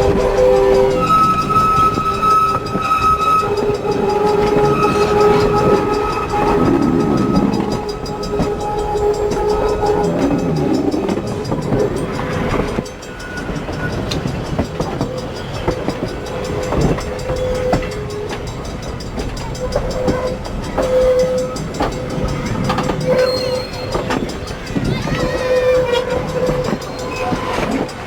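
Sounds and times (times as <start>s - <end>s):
rail clicks and clanks: 0.0s - 28.0s
train moving along track: 0.0s - 28.0s
train wheel squeals: 0.0s - 28.0s.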